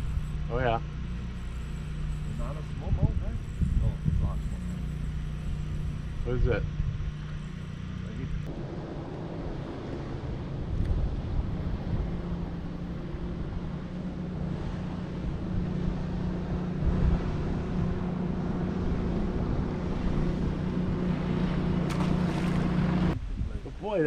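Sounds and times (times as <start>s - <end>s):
boat motor running: 0.0s - 23.2s
wind buffeting microphone: 2.2s - 7.5s, 8.4s - 24.0s.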